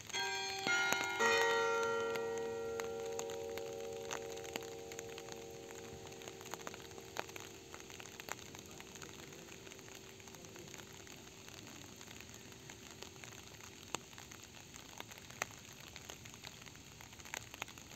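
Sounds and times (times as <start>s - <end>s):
rain falling: 0.0s - 17.9s
raindrops ticking close by: 0.0s - 17.9s.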